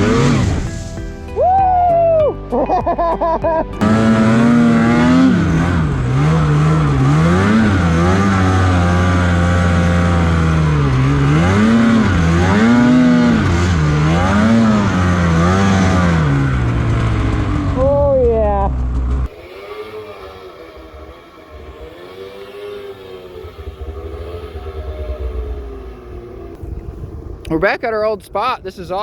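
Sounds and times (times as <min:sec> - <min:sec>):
snowmobile engine revving: 0:00.0 - 0:29.0.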